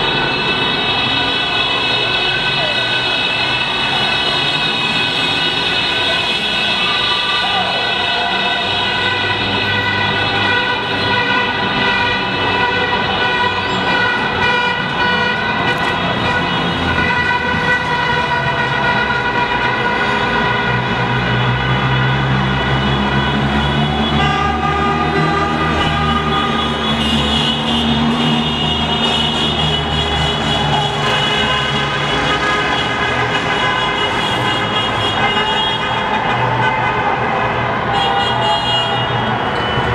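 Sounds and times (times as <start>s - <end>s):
street noise: 0.0s - 39.9s
vehicle horn blaring: 0.2s - 37.2s, 37.9s - 39.9s.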